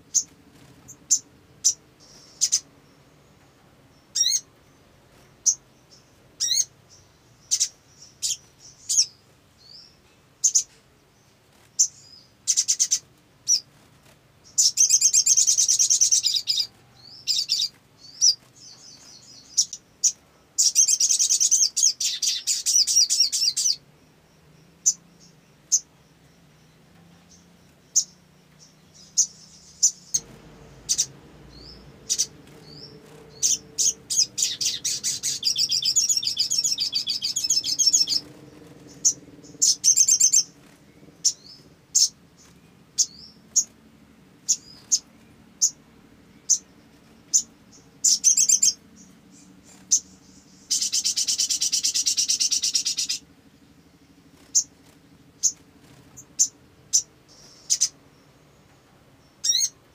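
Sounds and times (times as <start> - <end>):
bird chirping and trilling: 0.0 - 3.4, 4.0 - 10.7, 11.7 - 13.7, 14.4 - 43.8, 44.4 - 58.5, 59.2 - 59.8.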